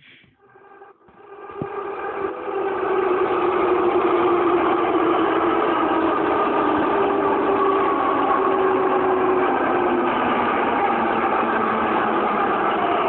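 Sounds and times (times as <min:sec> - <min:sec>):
rail grinding rushing noise: 0:00.4 - 0:13.0.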